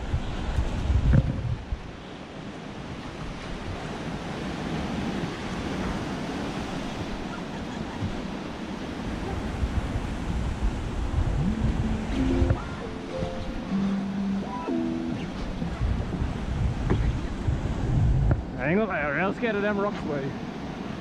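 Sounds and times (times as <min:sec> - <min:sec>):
wind on microphone: 0:00.0 - 0:18.7.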